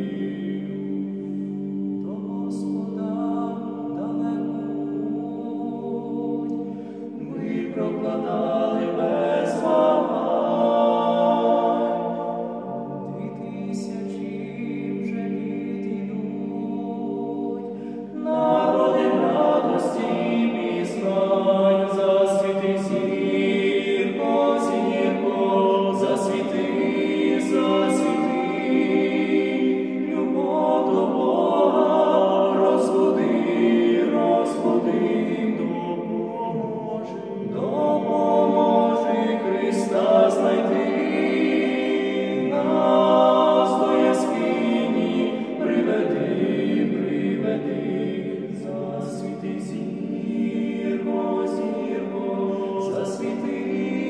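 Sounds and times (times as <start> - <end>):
men singing a cappella harmony: 0.0 - 54.0.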